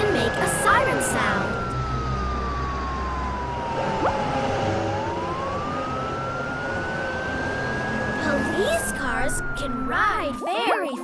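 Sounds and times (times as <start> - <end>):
police siren wailing: 0.0 - 10.8.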